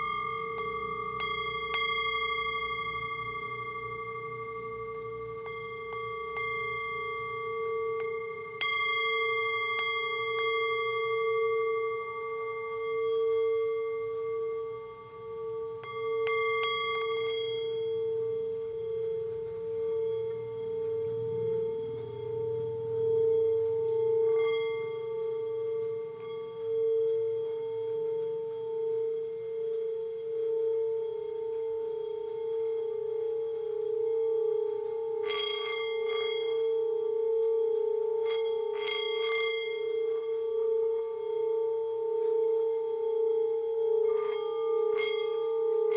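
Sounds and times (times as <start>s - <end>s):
ringing drone with overtones: 0.0s - 45.9s.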